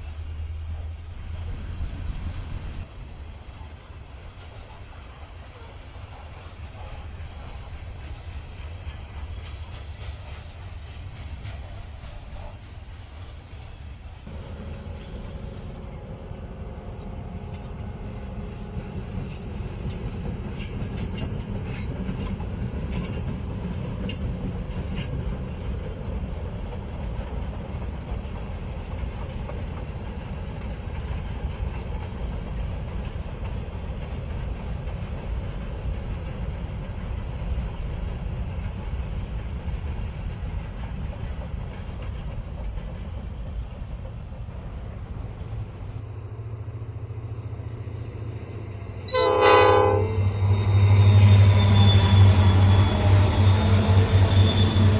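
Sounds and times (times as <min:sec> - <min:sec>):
freight train rolling past: 0:00.0 - 0:54.9.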